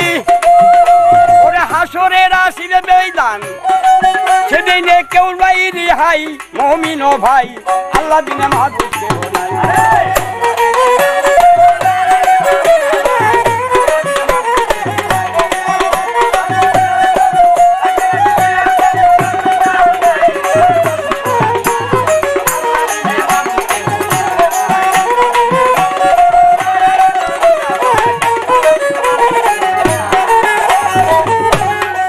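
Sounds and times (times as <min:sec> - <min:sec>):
bamboo flute melody: 0:00.0 - 0:32.0
dhol drum beat: 0:00.0 - 0:32.0
harmonium: 0:00.0 - 0:32.0.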